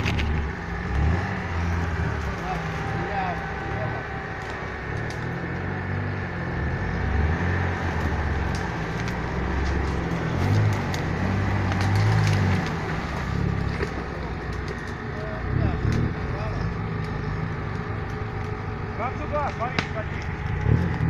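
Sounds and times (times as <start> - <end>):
twigs and branches cracking: 0.0 - 5.8, 7.3 - 21.0
off-road engine running: 0.0 - 21.0.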